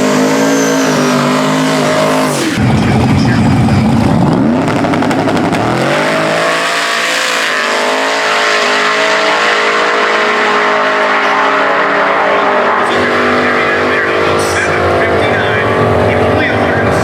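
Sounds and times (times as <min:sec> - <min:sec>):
supercharged engine at full throttle: 0:00.0 - 0:17.0.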